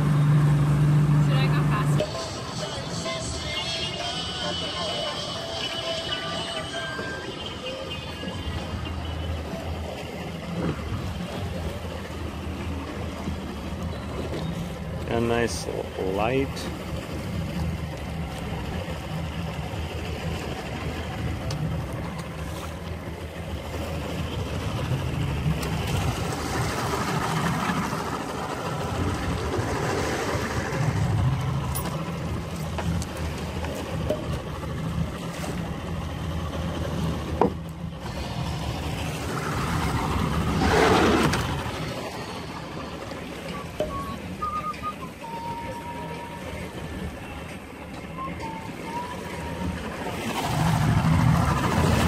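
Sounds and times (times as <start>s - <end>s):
outboard motor idling: 0.0s - 52.0s
water noise: 0.0s - 52.0s
wind: 0.0s - 52.0s.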